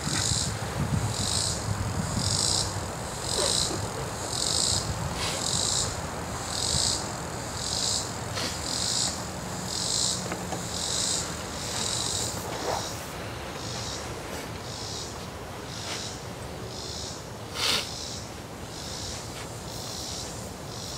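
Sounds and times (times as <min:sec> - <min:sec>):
insects buzzing trill: 0:00.0 - 0:20.9.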